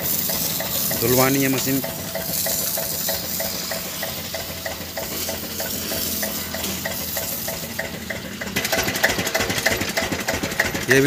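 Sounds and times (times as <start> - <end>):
hose water jet hissing: 0.0 - 9.0
engine running: 0.0 - 11.0.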